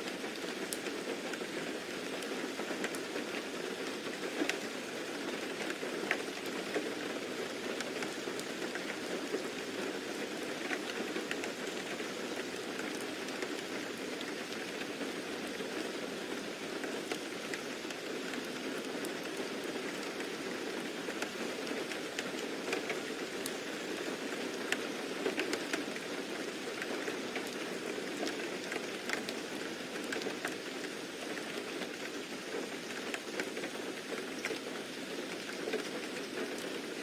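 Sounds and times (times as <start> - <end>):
raindrops dripping and pattering: 0.0 - 37.0
steady rain hiss: 0.0 - 37.0.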